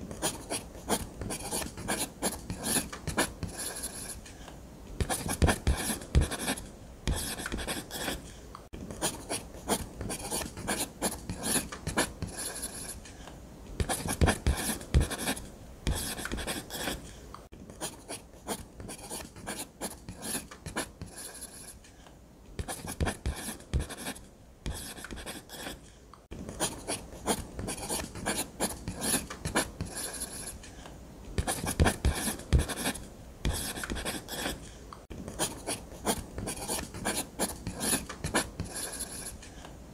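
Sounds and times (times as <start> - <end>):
pen scratching on paper: 0.1 - 4.2, 5.0 - 8.3, 8.9 - 13.1, 13.8 - 17.1, 17.7 - 21.8, 22.6 - 25.8, 26.5 - 30.6, 31.4 - 34.7, 35.3 - 39.4.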